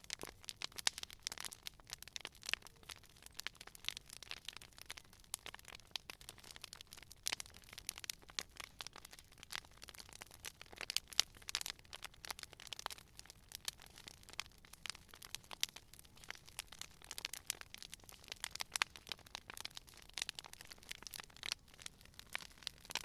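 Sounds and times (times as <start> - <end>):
campfire crackling and popping: 0.0 - 23.0
low rumble of flames: 0.0 - 23.0.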